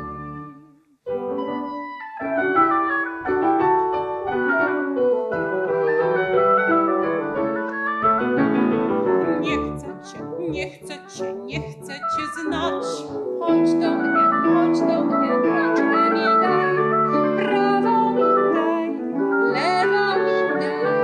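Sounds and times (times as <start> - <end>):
piano oboe and bassoon waltz: 0.0 - 21.0.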